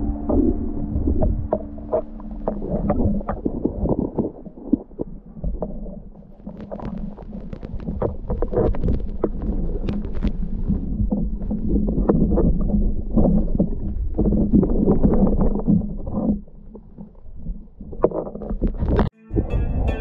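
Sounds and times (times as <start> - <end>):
muffled underwater rumble: 0.0 - 20.0
underwater clicks and crackles: 0.2 - 19.1.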